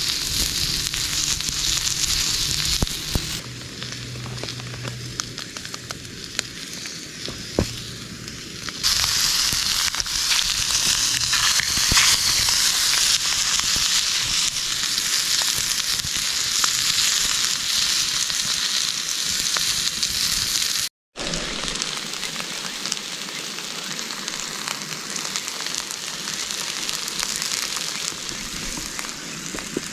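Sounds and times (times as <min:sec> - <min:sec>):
meat sizzling in a pan: 0:00.0 - 0:29.9
sharp crackles: 0:00.0 - 0:29.9.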